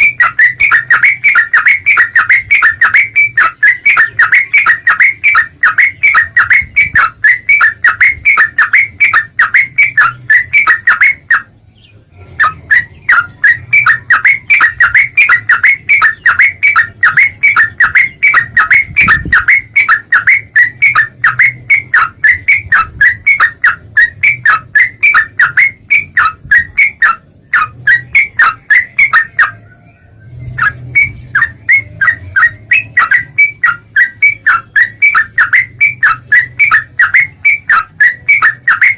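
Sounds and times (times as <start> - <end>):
bird calling sharp notes: 0.0 - 11.6, 12.2 - 38.9.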